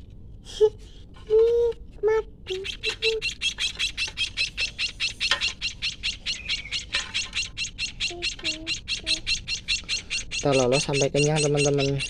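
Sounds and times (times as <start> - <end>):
nestling begging cheeps: 1.5 - 12.0.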